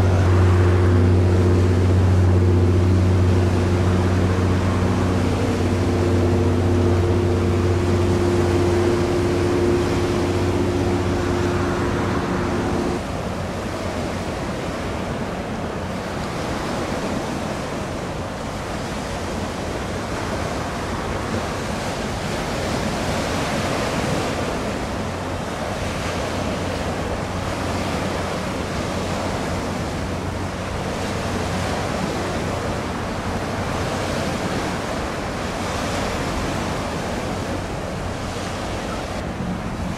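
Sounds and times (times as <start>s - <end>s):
sea waves washing: 0.0s - 39.9s
wind on microphone: 0.0s - 39.9s.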